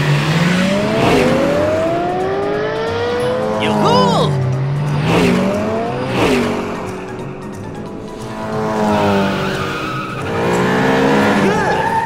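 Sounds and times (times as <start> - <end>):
background music: 0.0 - 12.0
cars whooshing past: 0.0 - 12.0
cartoon race car engines revving: 0.0 - 12.0.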